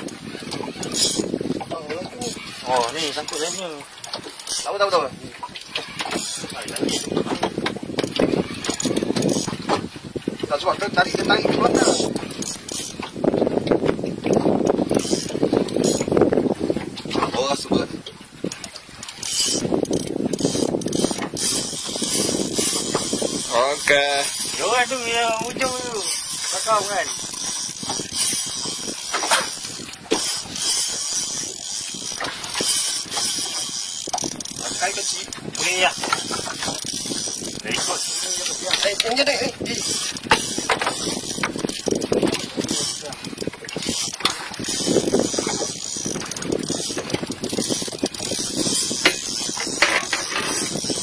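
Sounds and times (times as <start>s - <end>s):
fishing reel clicks: 0.0s - 1.4s, 2.0s - 5.0s, 5.6s - 9.6s, 11.0s - 13.1s, 14.3s - 16.2s, 18.5s - 51.0s
fishing reel hissing: 0.3s - 1.4s, 2.1s - 3.8s, 4.4s - 4.8s, 5.8s - 7.2s, 8.0s - 9.6s, 11.0s - 13.0s, 14.9s - 16.1s, 18.5s - 51.0s.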